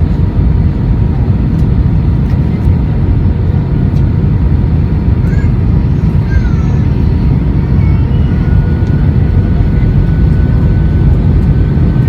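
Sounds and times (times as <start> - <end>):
faint steady whine: 0.0 - 12.0
jet engines rumbling: 0.0 - 12.0.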